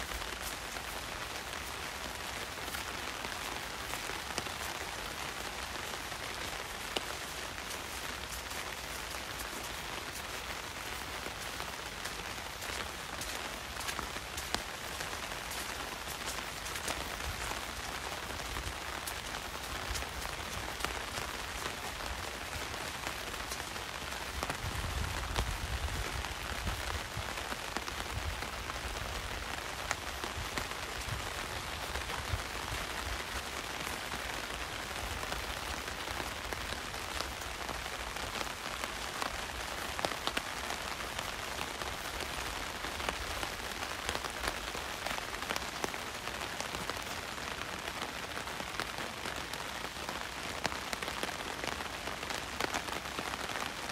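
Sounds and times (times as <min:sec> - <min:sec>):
heavy rain: 0:00.0 - 0:53.9
raindrops tapping on umbrella: 0:00.0 - 0:53.9.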